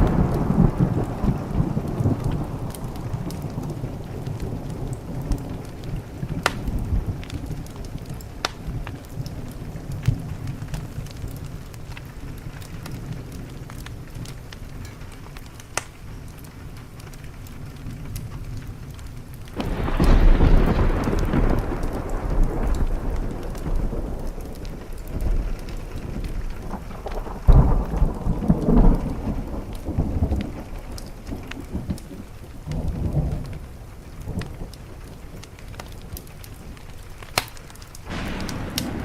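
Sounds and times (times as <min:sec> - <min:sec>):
thunder rumbling: 0:00.0 - 0:15.4, 0:17.7 - 0:39.0
steady rain: 0:00.0 - 0:39.0
wood fire crackling: 0:00.0 - 0:39.0.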